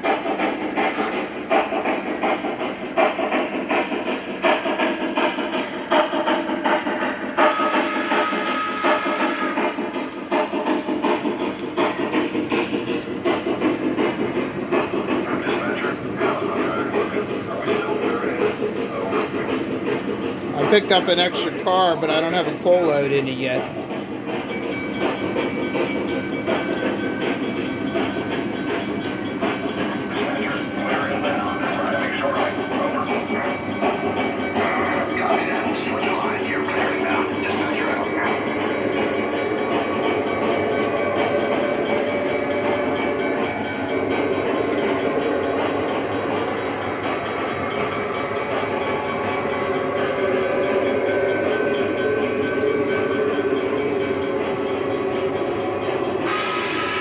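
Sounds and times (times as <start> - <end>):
scattered clicks: 0.0 - 56.3
model steam locomotive chuffing: 0.0 - 57.0.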